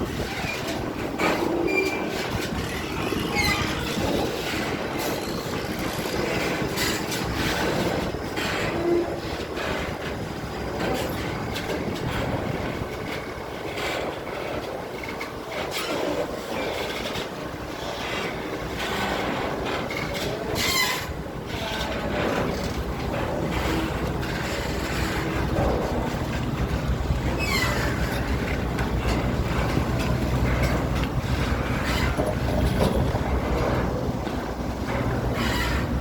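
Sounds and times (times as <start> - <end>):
low engine rumble: 0.0 - 15.8, 16.4 - 36.0.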